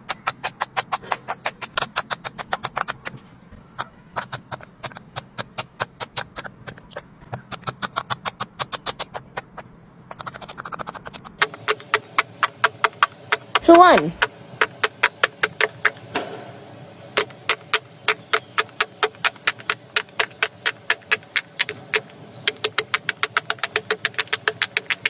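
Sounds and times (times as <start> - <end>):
fidget toy popping: 0.0 - 16.0, 17.2 - 25.0.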